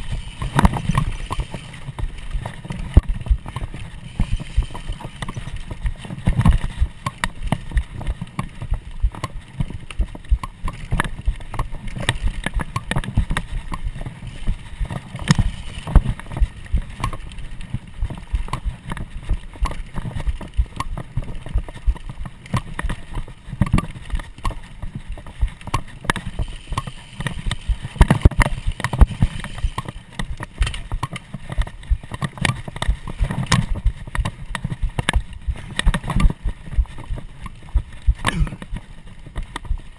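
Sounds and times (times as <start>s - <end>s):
bike clattering over trail: 0.0s - 39.9s
rolling tyre noise: 0.0s - 39.9s.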